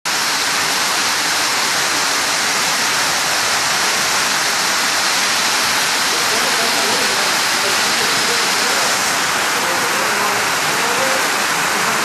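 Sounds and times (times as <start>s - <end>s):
floodwater rushing: 0.1s - 12.0s.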